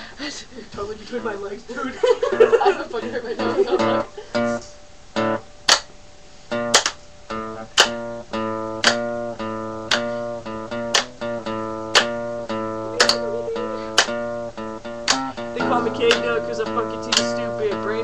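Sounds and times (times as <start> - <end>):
acoustic guitar strumming: 2.4 - 5.9, 6.5 - 18.0.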